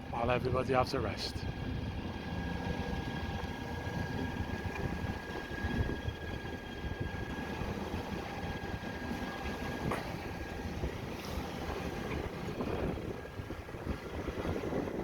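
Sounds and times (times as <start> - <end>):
boat engine droning: 0.0 - 15.0
thin steady whine: 0.0 - 15.0.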